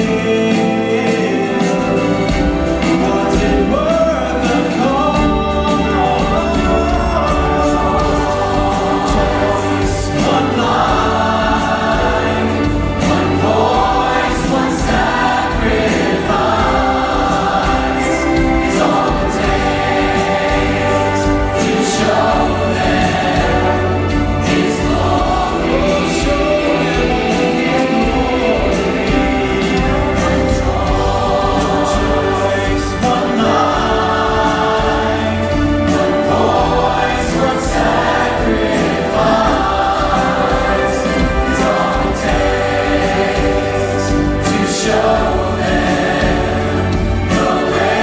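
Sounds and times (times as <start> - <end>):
choir singing with band: 0.0 - 48.0.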